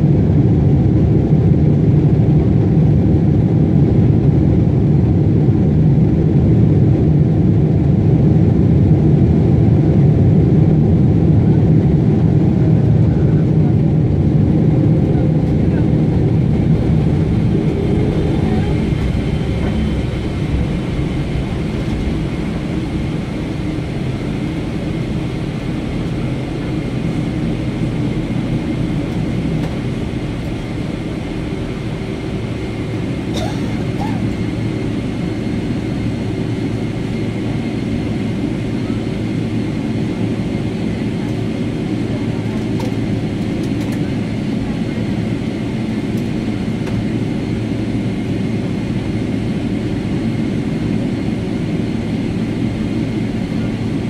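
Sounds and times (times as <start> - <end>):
airplane cabin low rumble: 0.0 - 54.0.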